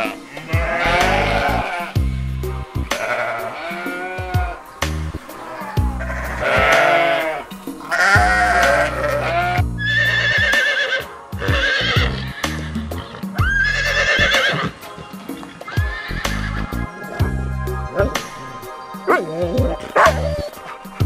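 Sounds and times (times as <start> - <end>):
farm animal calls: 0.0 - 2.0, 2.9 - 17.2, 17.9 - 21.0
music with bass beat: 0.0 - 10.2, 11.4 - 21.0.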